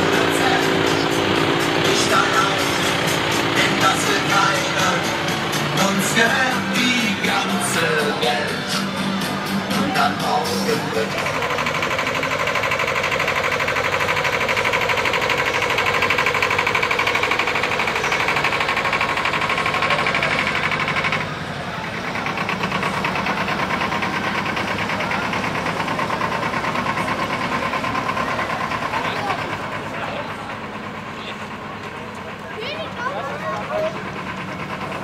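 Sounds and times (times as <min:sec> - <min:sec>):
diesel engine clattering: 0:00.0 - 0:35.0.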